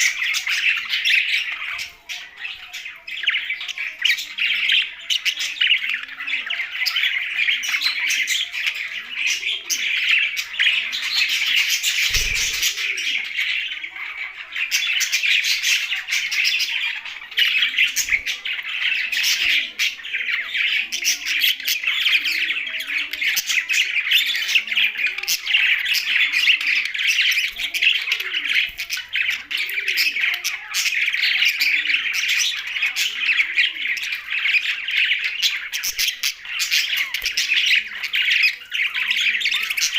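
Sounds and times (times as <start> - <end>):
budgies and parrots chirping: 0.0 - 39.9.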